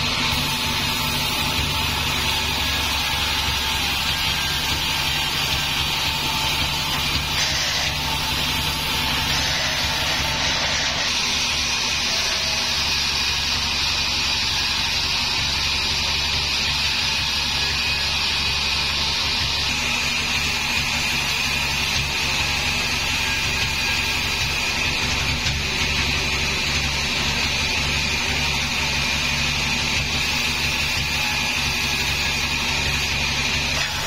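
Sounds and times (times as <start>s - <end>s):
band saw cutting wood: 0.0s - 34.0s
saw drive hum: 0.0s - 34.0s.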